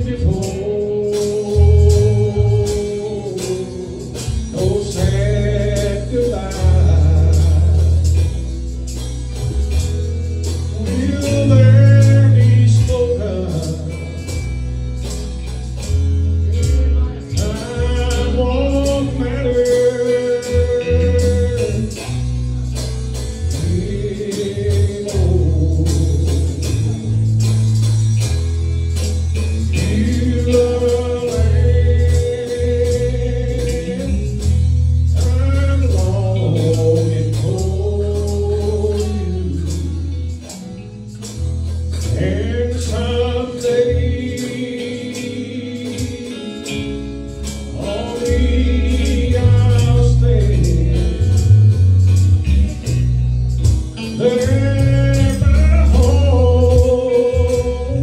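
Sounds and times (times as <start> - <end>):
man singing gospel song: 0.0 - 8.7, 10.4 - 27.6, 29.0 - 40.8, 42.0 - 58.0
bass and steady beat: 0.0 - 58.0.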